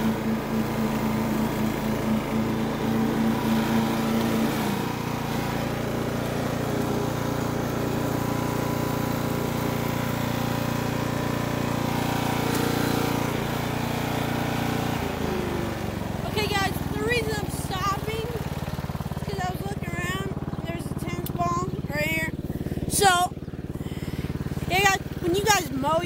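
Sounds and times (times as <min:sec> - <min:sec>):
riding lawn mower engine: 0:00.0 - 0:26.0.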